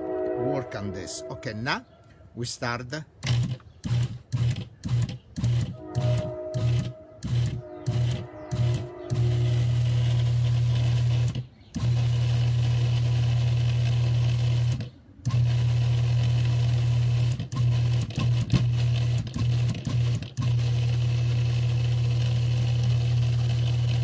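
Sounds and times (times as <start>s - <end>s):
food processor motor humming: 3.8s - 5.8s, 6.6s - 24.0s.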